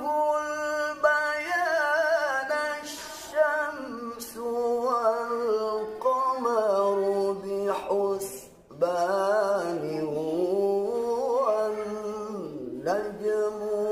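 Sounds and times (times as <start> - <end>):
man reciting melodically: 0.0 - 13.9.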